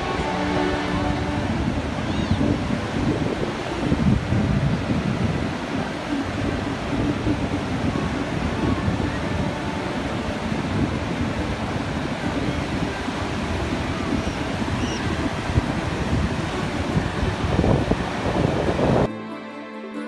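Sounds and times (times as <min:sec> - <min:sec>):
ocean surf breaking: 0:00.0 - 0:19.1
wind buffeting the microphone: 0:00.0 - 0:19.1.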